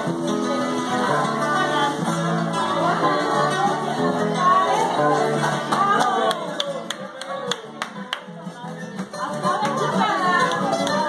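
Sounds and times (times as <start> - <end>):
acoustic guitars strumming: 0.0 - 11.0
voices singing: 0.0 - 11.0.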